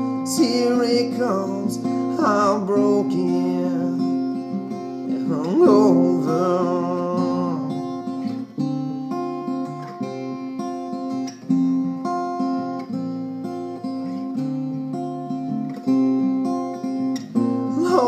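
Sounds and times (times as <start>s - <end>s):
fingerpicked acoustic guitar: 0.0s - 18.0s.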